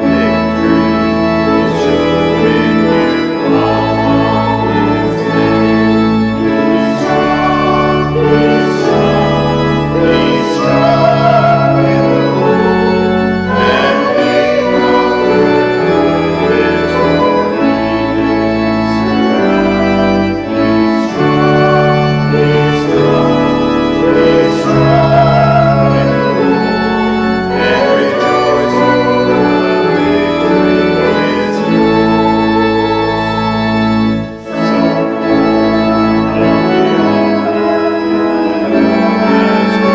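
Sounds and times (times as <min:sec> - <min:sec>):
church organ playing a hymn: 0:00.0 - 0:39.9.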